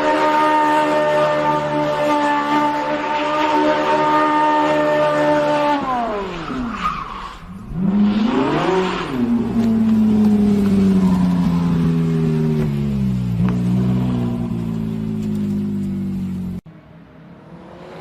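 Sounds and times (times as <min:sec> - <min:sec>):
car engine revving: 0:00.0 - 0:06.5, 0:07.6 - 0:18.0.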